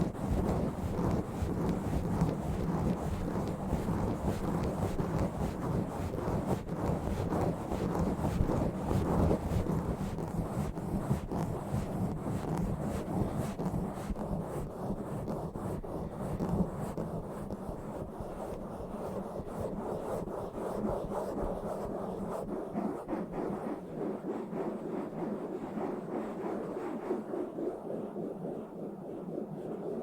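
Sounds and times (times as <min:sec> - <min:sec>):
scratching on microphone: 0:00.0 - 0:30.0.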